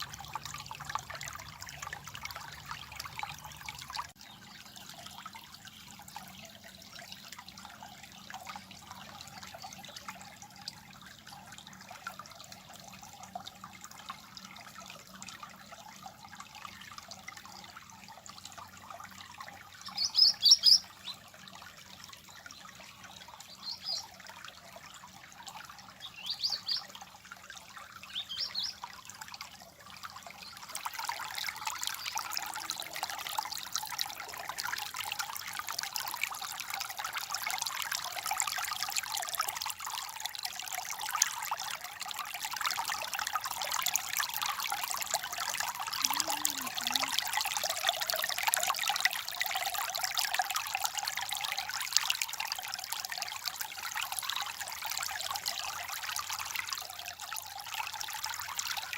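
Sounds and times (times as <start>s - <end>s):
water trickling: 0.0s - 58.9s.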